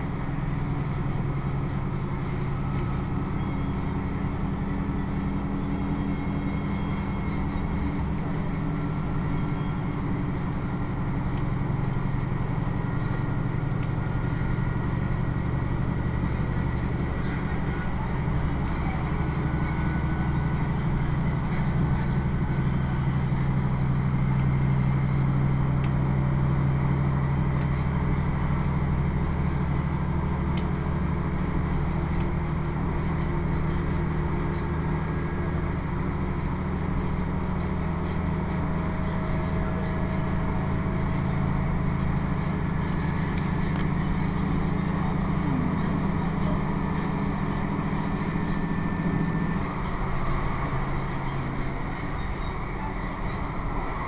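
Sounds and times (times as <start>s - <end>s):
train engine drone: 0.0s - 54.0s
train wheels rumbling on track: 0.0s - 54.0s.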